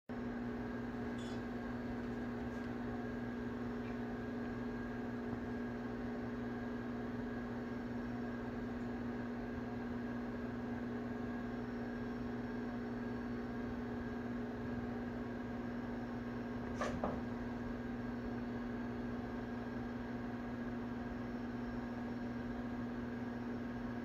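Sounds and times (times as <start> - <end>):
electrical hum: 0.1 - 24.0.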